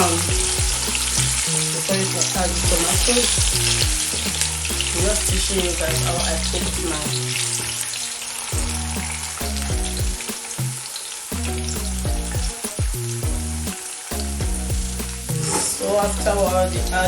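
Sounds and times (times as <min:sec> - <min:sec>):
background music: 0:00.0 - 0:17.0
onions sizzling in oil: 0:00.0 - 0:17.0.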